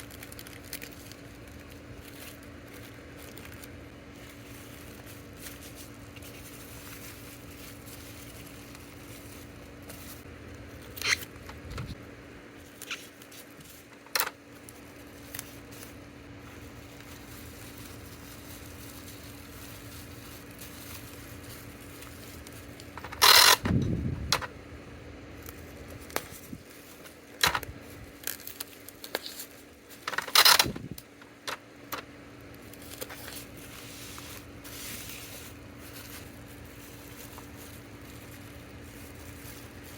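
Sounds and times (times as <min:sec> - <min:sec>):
plastic packaging crinkling: 0:00.0 - 0:12.0, 0:12.6 - 0:24.4, 0:25.4 - 0:39.9
steady low hum: 0:00.0 - 0:39.9.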